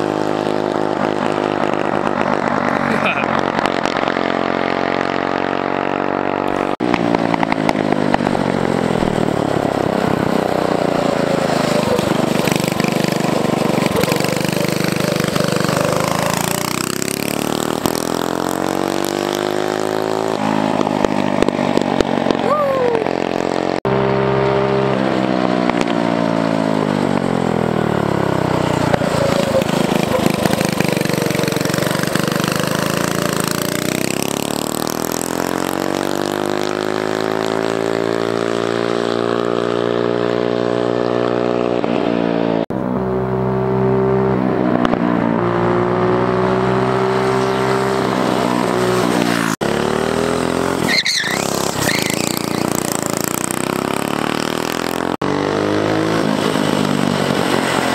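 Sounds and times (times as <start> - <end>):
go-kart engine revving: 0.0 - 57.9.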